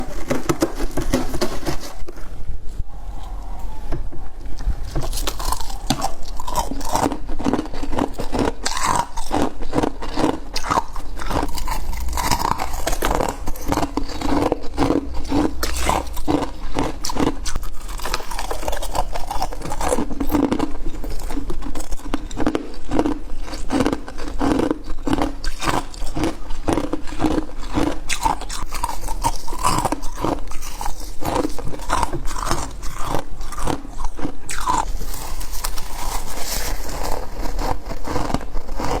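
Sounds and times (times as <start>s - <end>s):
crunching and chewing frost: 0.0s - 3.6s, 4.2s - 39.0s.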